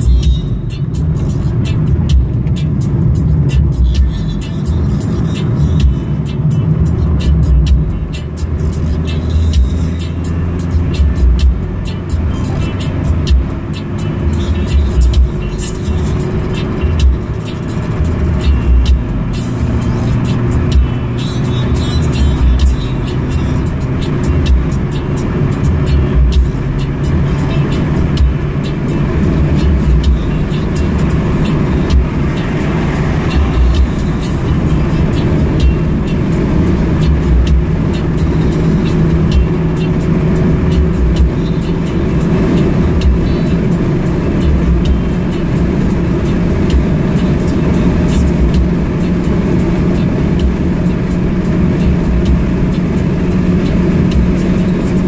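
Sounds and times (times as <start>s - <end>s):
car engine hum: 0.0s - 55.0s
road rumble: 0.0s - 55.0s.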